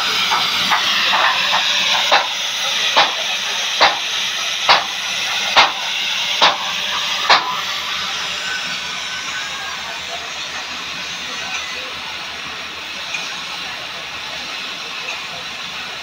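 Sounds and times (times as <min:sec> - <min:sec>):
cutting torch flame hissing: 0:00.0 - 0:16.0.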